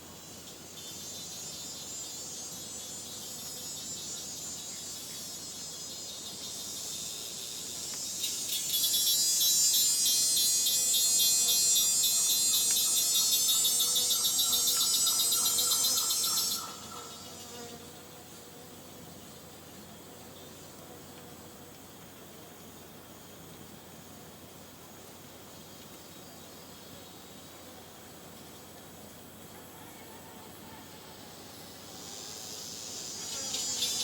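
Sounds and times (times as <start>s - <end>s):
insects buzzing in chorus: 0.0s - 34.0s.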